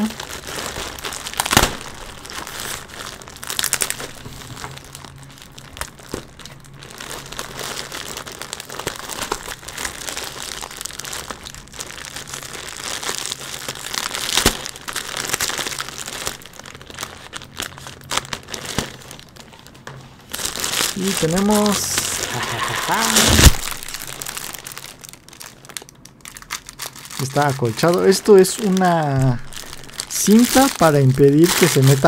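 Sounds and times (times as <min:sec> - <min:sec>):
plastic bag crinkling: 0:00.0 - 0:32.0.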